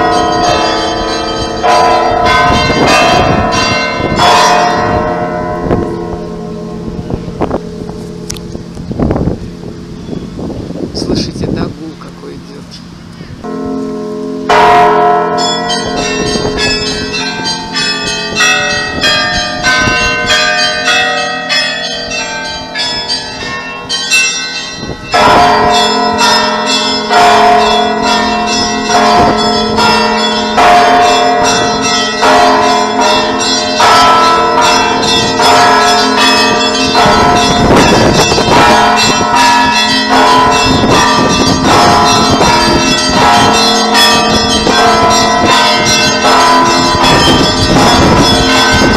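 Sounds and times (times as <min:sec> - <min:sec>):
church bells ringing: 0:00.0 - 0:48.9
low hum of large bell: 0:00.0 - 0:48.9.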